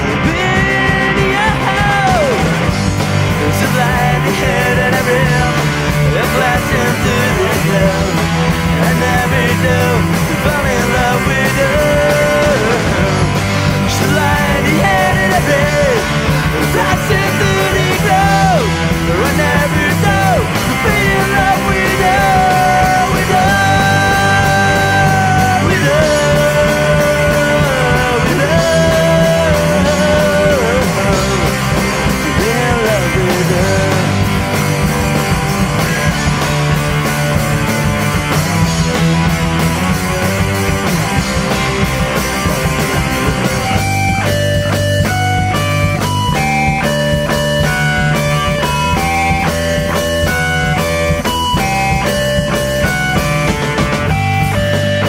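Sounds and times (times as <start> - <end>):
lead guitar bending notes: 0.0 - 55.0
rock band playing: 0.0 - 55.0.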